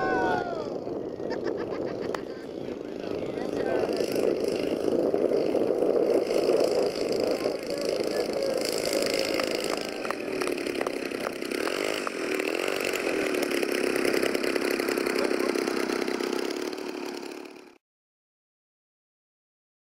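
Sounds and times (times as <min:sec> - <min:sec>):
model airplane engine running: 0:00.7 - 0:17.8.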